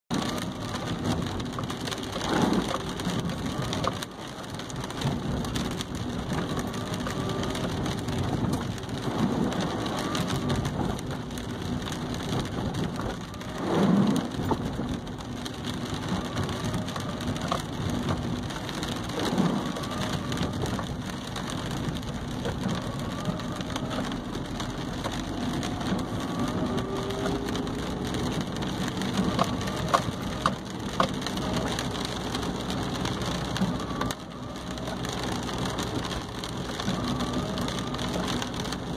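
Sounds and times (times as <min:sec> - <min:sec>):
engine and tyre hum: 0:00.1 - 0:38.9
rain pattering on car roof: 0:00.1 - 0:38.9.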